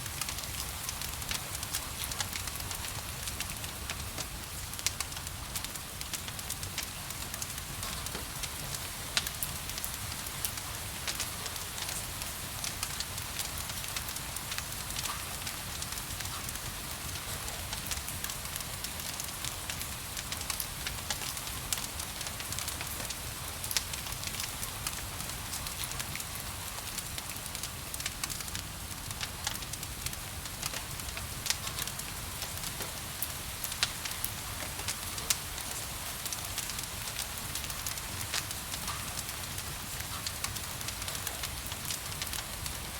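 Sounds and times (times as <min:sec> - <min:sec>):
fire crackling and popping: 0:00.0 - 0:42.9
gentle rain: 0:00.0 - 0:42.9.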